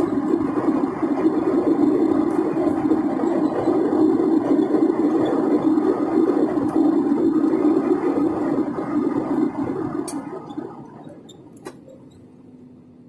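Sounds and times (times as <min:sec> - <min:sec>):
low rumbling with high whine: 0:00.0 - 0:13.0.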